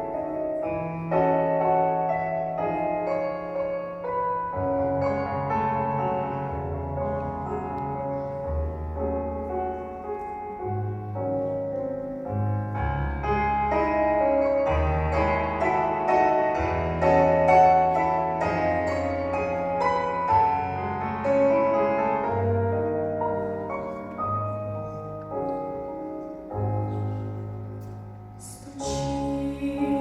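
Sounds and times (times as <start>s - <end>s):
piano-tone keyboard music: 0.0s - 30.0s.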